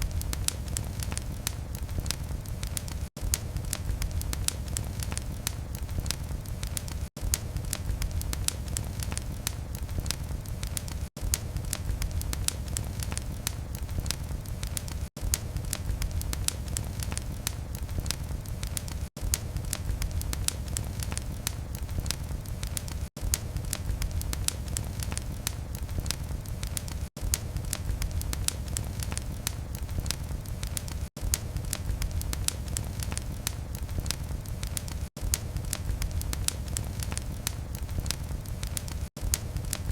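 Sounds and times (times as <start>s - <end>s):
fire rumbling in fireplace: 0.0s - 39.9s
wood crackling and popping: 0.0s - 39.9s.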